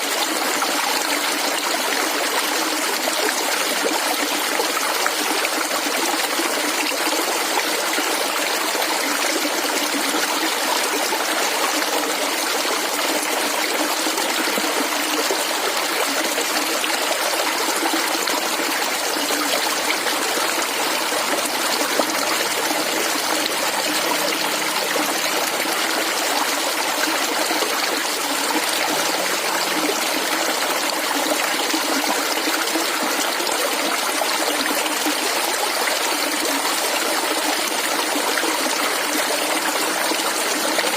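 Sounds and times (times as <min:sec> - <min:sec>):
stream gurgling over stones: 0:00.0 - 0:40.9.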